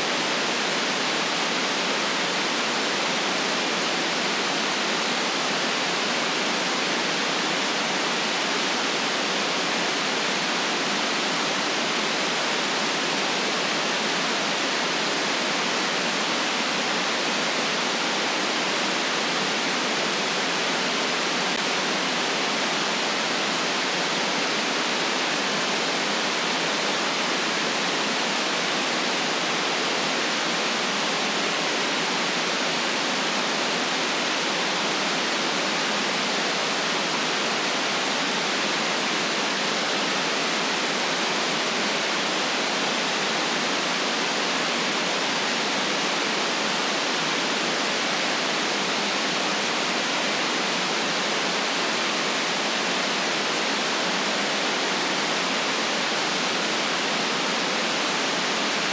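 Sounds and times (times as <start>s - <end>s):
steady white noise hiss: 0.0s - 58.9s.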